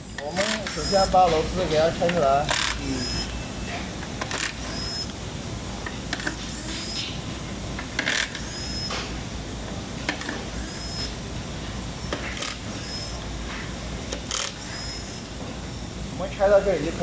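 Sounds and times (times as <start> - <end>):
faint high-pitched whines: 0.0 - 17.0.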